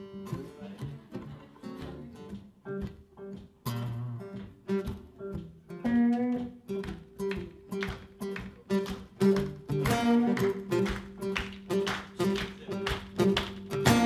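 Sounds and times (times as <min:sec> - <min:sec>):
acoustic guitars playing blues: 0:00.0 - 0:14.0.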